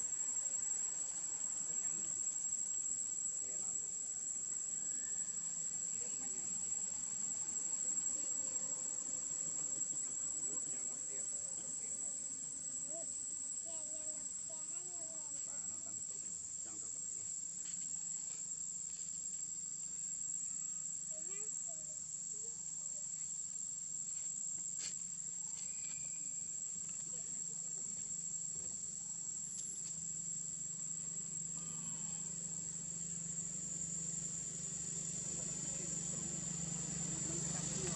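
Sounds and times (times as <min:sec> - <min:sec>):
high-pitched insect drone: 0:00.0 - 0:37.9.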